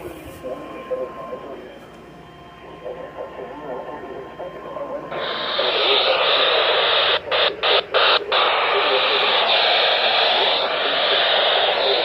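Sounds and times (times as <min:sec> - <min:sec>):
radio static hiss: 0:00.0 - 0:01.8, 0:02.6 - 0:12.0.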